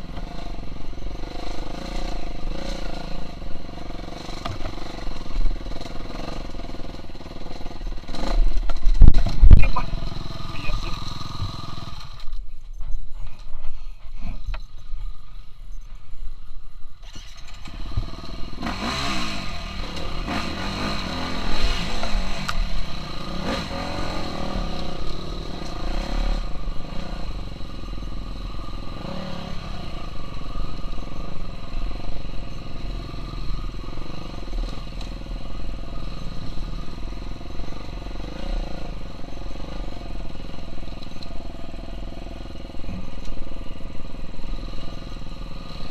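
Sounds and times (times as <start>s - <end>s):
motocross bike engine revving: 0.0s - 12.3s, 17.0s - 45.9s.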